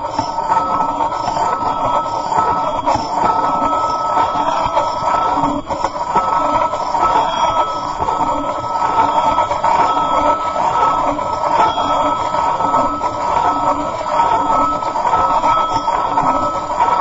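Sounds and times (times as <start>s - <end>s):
metal plate ringing: 0.0s - 17.0s.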